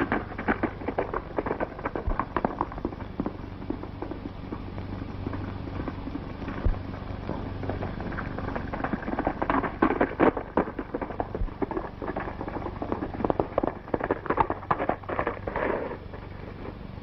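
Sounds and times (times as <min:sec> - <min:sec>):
galloping horse hoofbeats on dirt: 0:00.0 - 0:17.0
steady low hum: 0:00.0 - 0:17.0.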